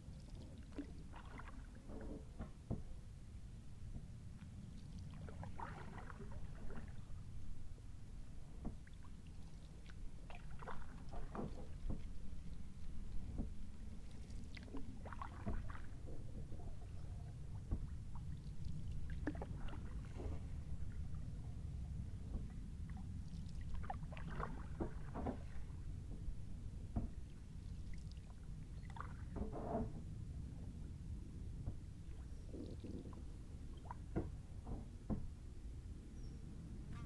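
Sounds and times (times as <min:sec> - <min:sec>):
paddle splashes and drips: 0:00.0 - 0:03.0, 0:03.9 - 0:29.9, 0:31.6 - 0:35.3
steady low rumble: 0:00.0 - 0:29.4, 0:30.0 - 0:37.0.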